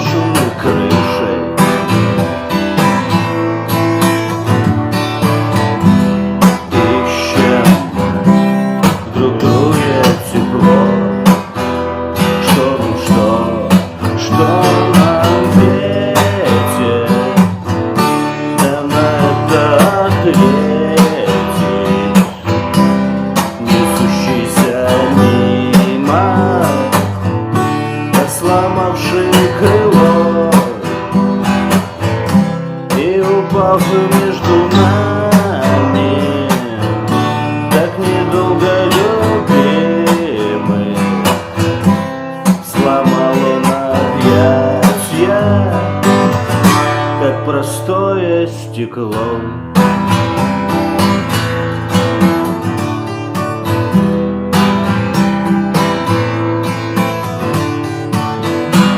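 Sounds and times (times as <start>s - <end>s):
acoustic guitar strumming: 0.0s - 58.9s.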